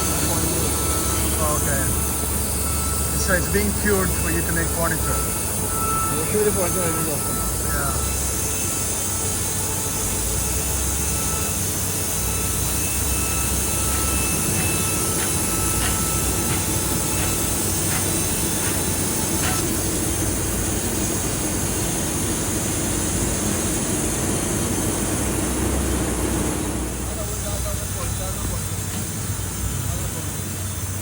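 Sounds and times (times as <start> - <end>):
faint steady whine: 0.0 - 31.0
sawmill machinery running: 0.0 - 31.0.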